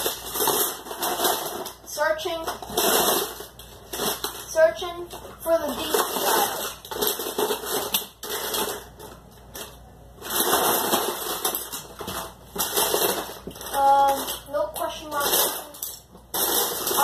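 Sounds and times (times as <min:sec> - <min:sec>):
plastic parts rustling and clattering: 0:00.0 - 0:17.0.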